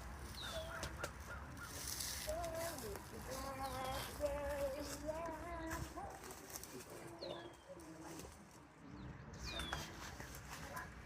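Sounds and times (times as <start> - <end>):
indistinct voices: 0.5 - 11.0.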